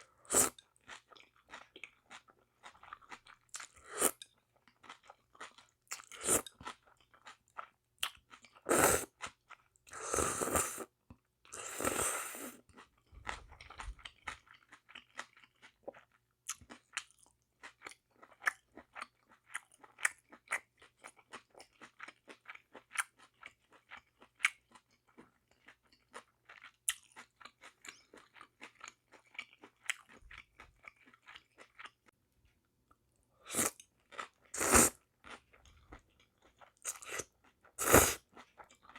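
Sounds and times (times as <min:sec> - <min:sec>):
close chewing of noodles: 0:00.1 - 0:32.1, 0:33.4 - 0:38.9.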